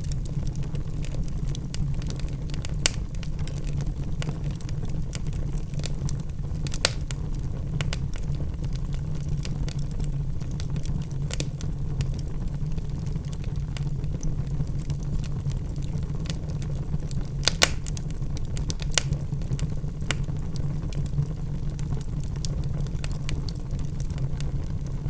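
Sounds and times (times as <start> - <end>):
logs burning in a fireplace: 0.0 - 25.0.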